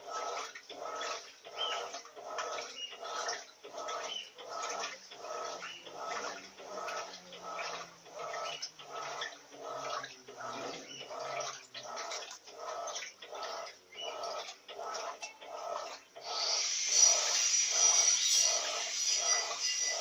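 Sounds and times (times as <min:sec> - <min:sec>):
washing machine water swishing: 0:00.0 - 0:20.0.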